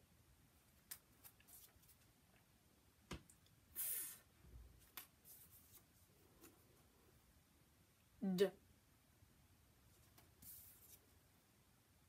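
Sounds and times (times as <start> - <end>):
soft fff hiss: 0.0 - 12.0.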